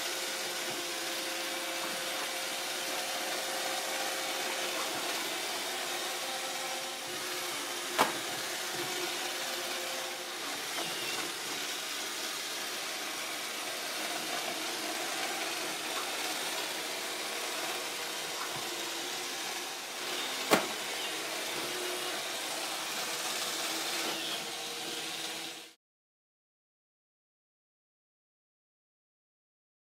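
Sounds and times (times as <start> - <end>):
robot vacuum cleaner whirring: 0.0 - 25.8.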